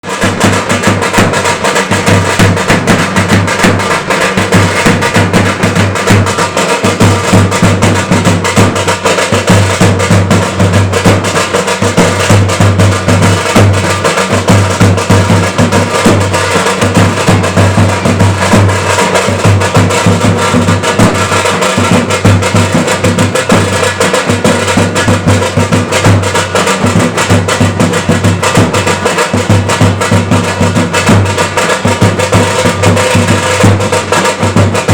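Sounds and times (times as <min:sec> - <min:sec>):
drums beaten fast: 0:00.0 - 0:34.9.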